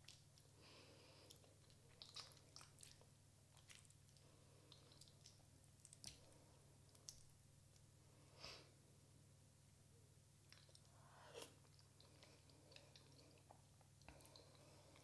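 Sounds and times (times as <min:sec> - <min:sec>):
soft chewing: 0:00.0 - 0:08.0, 0:10.4 - 0:15.0.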